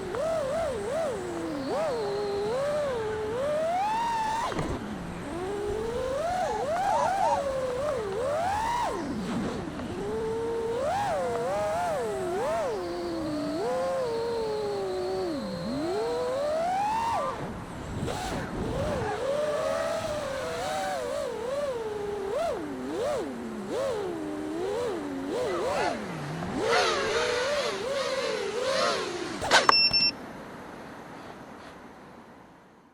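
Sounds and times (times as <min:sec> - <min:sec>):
quadcopter motors whining: 0:00.0 - 0:30.1.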